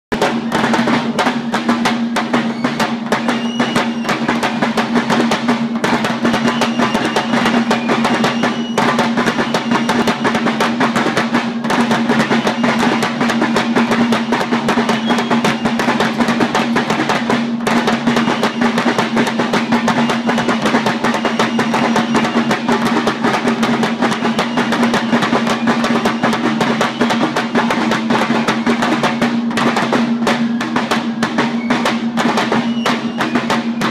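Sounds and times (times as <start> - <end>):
drum rattle of cane strokes: 0.1 - 33.9.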